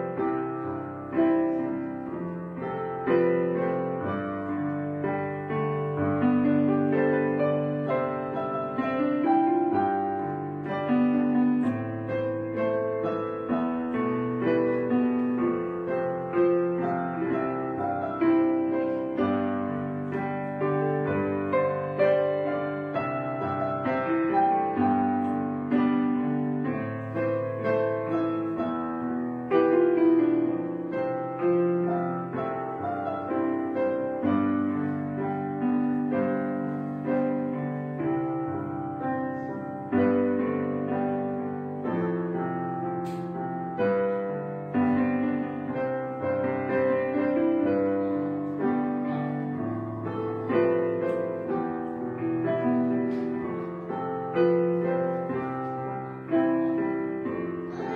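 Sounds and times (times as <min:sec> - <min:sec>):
solo piano music: 0:00.0 - 0:57.9.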